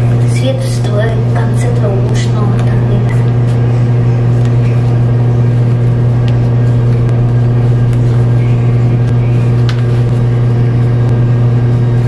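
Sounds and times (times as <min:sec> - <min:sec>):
loud steady low hum: 0:00.0 - 0:12.0.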